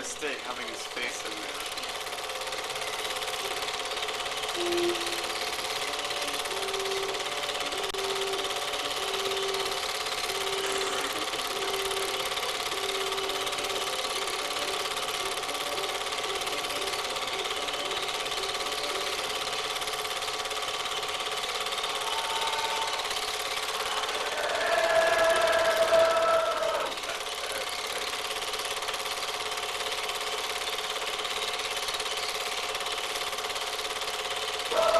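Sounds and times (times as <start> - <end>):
film projector whirring: 0.0 - 34.9.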